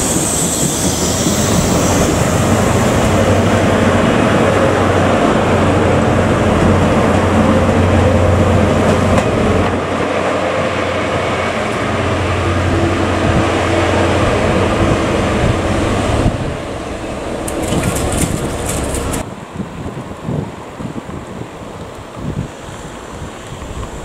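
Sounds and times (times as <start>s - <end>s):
diesel train engine running: 0.0s - 19.2s
distant train engine: 0.0s - 19.2s.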